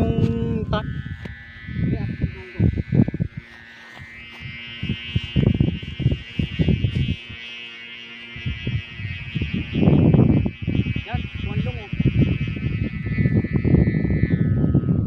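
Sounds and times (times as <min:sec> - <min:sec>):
high buzzing drone: 0:00.0 - 0:15.0.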